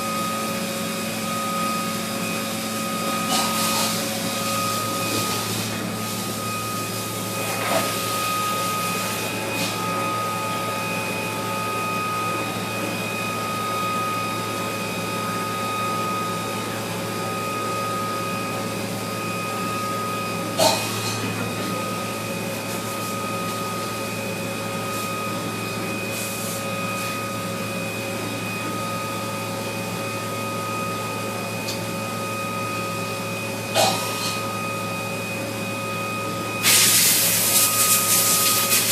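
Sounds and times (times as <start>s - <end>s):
machine whine over low hum: 0.0s - 38.9s.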